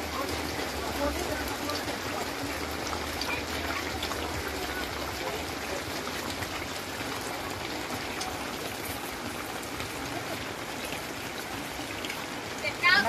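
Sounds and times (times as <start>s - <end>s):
market crowd hubbub: 0.0s - 13.0s.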